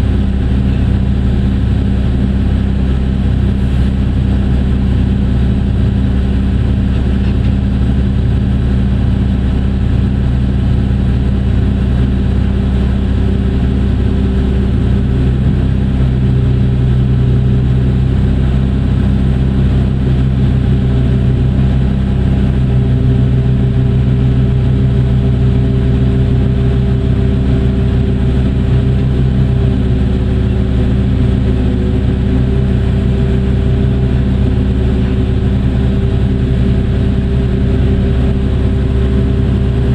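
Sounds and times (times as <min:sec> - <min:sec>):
large diesel engine running: 0:00.0 - 0:39.9.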